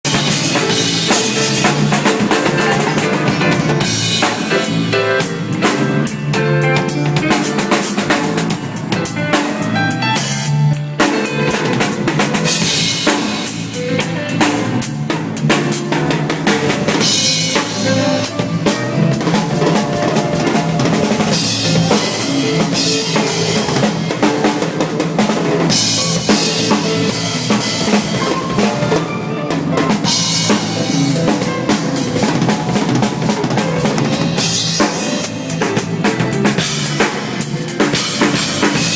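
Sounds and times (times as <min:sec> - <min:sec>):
drum kit groove: 0:00.0 - 0:38.9
jazz fusion band playing: 0:00.0 - 0:38.9.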